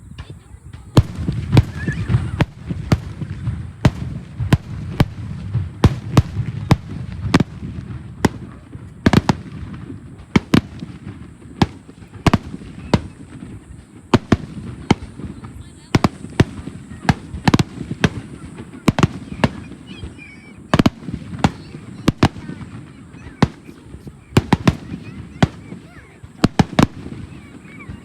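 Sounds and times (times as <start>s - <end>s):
fireworks sharp cracks: 0.0s - 28.0s.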